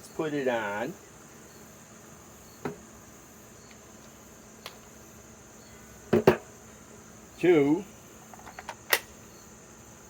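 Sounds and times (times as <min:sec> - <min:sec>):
high insect-like chirring: 0:00.0 - 0:10.0.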